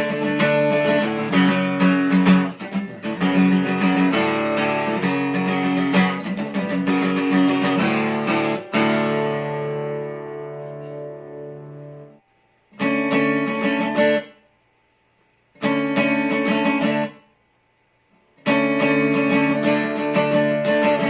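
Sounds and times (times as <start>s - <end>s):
acoustic guitar chords strummed: 0.0s - 14.5s, 15.6s - 17.3s, 18.4s - 21.0s.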